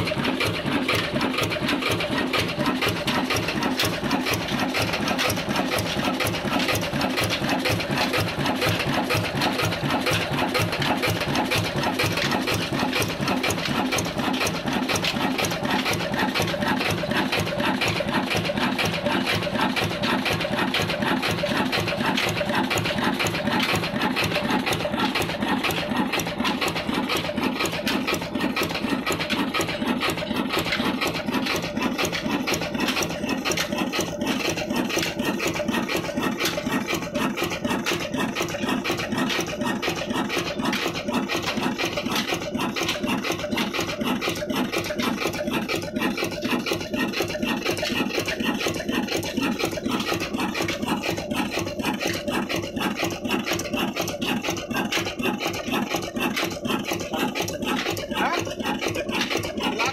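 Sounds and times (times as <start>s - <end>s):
diesel engine clattering: 0.0s - 59.9s.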